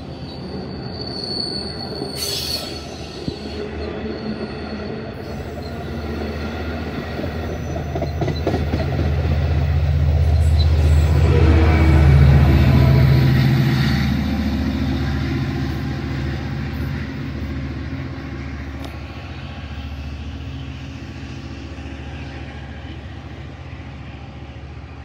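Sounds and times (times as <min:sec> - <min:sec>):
diesel train engine drone: 0:00.0 - 0:25.0.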